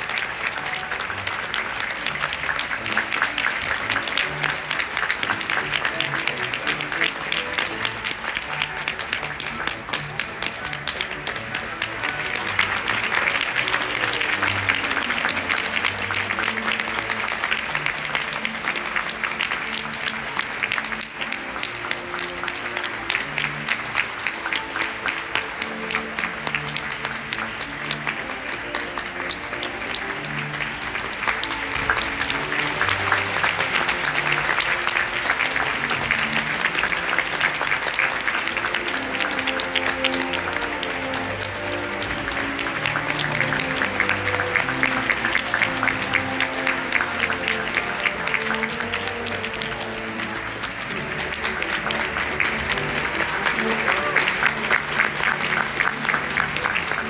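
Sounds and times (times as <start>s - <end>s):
audience applauding: 0.0s - 57.0s
orchestral music: 0.0s - 57.0s.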